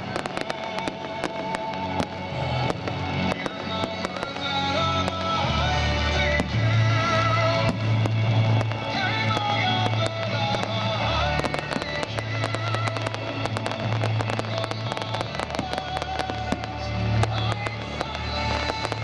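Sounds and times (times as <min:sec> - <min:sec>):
fireworks crackling: 0:00.0 - 0:19.0
music with heavy bass: 0:00.0 - 0:19.0.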